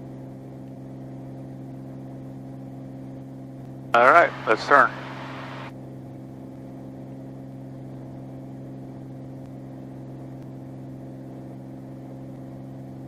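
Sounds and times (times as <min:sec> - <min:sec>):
aircraft engine and propeller drone: 0:00.0 - 0:12.9.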